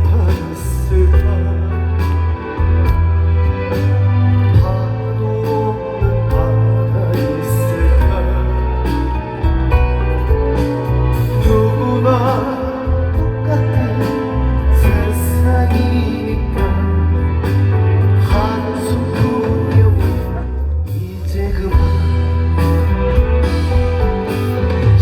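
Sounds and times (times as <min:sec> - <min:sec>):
person singing: 0:00.0 - 0:02.7, 0:03.4 - 0:25.0
live band music: 0:00.0 - 0:25.0.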